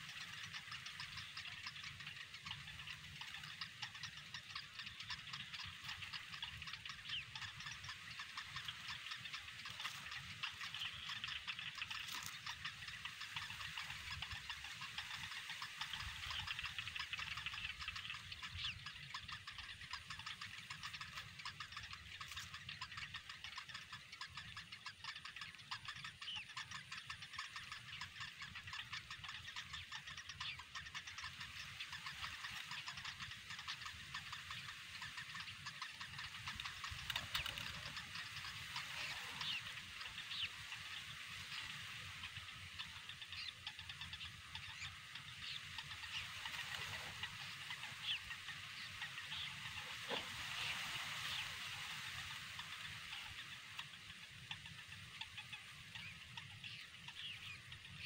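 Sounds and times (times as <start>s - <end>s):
rapid ticking and chirring animal calls: 0.0s - 58.0s.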